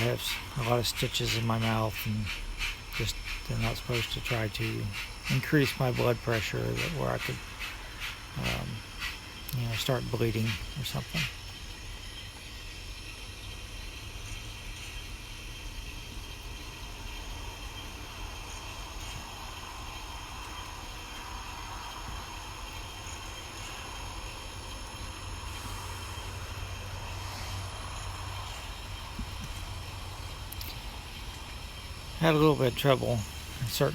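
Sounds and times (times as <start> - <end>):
model train whirring: 0.0 - 33.9.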